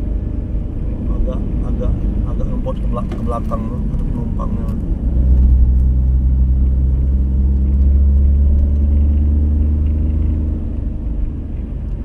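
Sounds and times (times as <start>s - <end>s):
vehicle engine droning under load: 0.0s - 12.0s.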